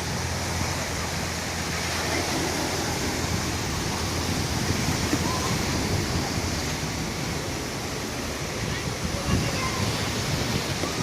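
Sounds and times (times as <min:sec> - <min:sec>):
surf washing on sandy beach: 0:00.0 - 0:11.0.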